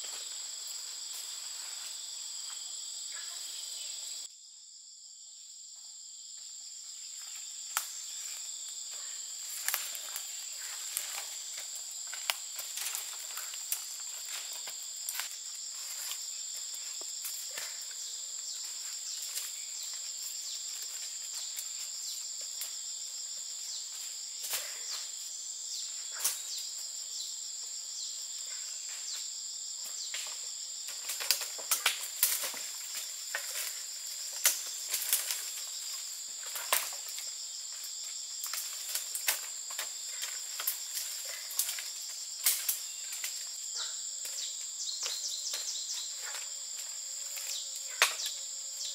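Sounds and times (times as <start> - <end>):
insects chirring: 0.0 - 48.9.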